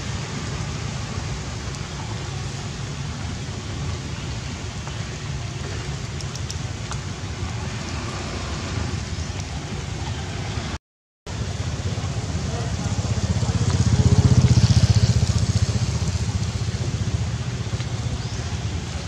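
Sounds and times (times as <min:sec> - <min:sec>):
heavy rain on water and rock: 0:00.0 - 0:19.0.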